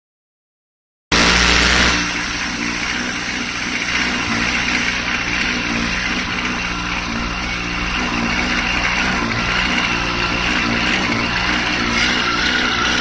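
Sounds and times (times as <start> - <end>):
motorcycle engine idling: 1.2 - 13.0.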